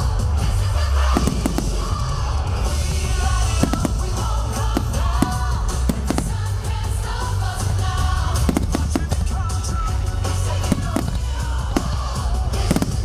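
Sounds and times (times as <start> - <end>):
fireworks bursting and crackling: 0.0 - 13.0
pop dance music with singer: 0.0 - 13.0.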